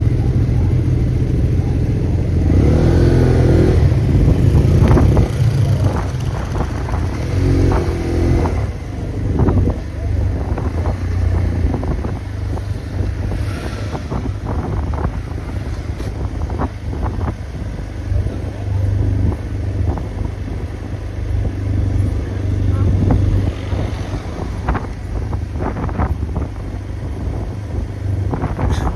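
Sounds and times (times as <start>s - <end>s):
motorcycle engine revving: 0.0s - 28.9s
wind buffeting microphone: 0.0s - 28.9s.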